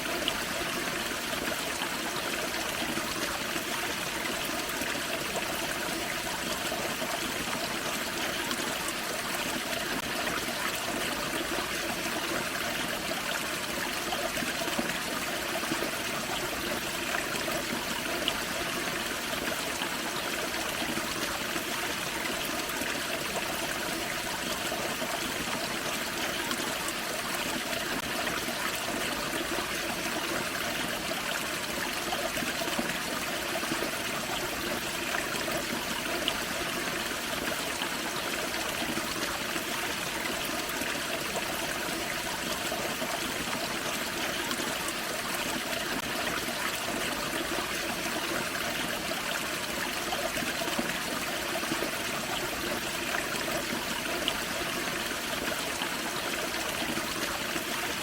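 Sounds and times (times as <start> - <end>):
creek over small waterfall: 0.0 - 58.0.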